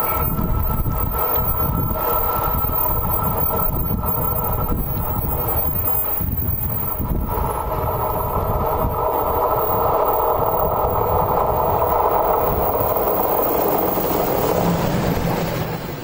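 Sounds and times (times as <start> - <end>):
electric locomotive humming: 0.0 - 16.0
wind rumble on microphone: 0.0 - 16.0.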